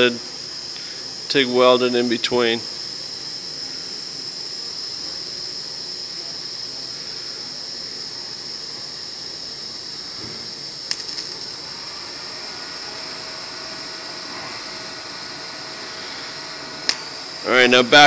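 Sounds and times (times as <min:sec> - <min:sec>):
welding arc hissing: 0:00.0 - 0:18.0.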